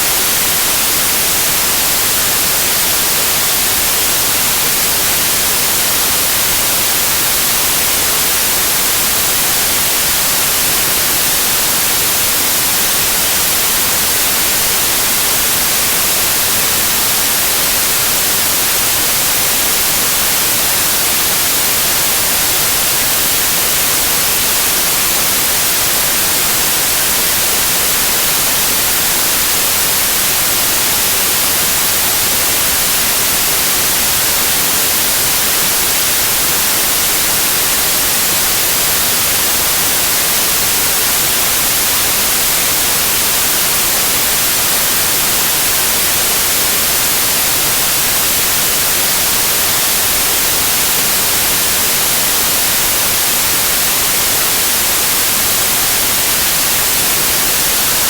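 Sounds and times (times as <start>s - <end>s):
tv static white noise: 0.0s - 58.0s.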